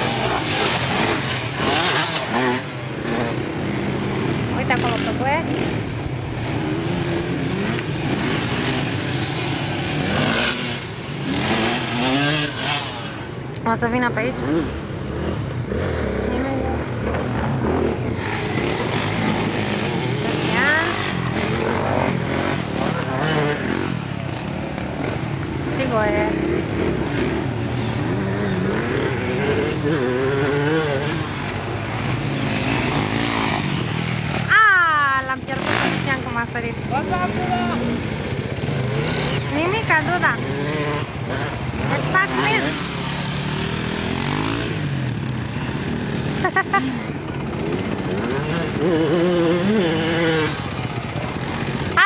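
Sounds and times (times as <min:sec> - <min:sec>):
dirt bike and quad engines revving: 0:00.0 - 0:52.0.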